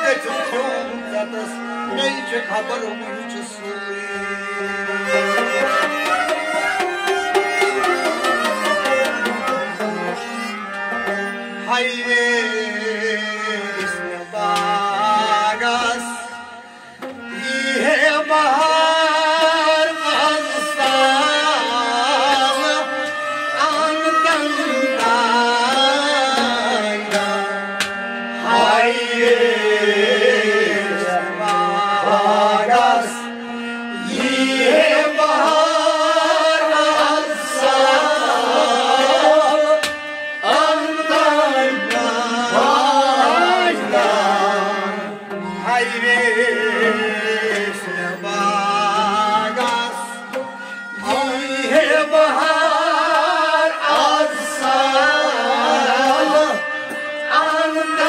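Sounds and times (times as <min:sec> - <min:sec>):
person singing: 0:00.0 - 0:27.6, 0:28.4 - 0:33.3, 0:33.9 - 0:58.0.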